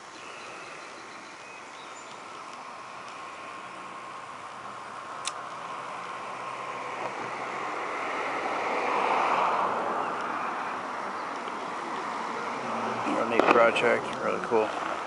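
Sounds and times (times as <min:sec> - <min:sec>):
car passing on road: 0:00.0 - 0:15.0.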